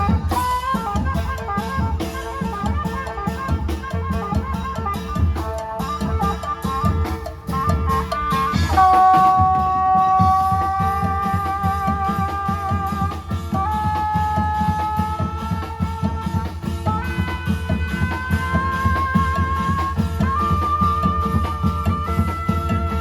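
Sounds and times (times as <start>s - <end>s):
fast drum beat: 0.0s - 23.0s.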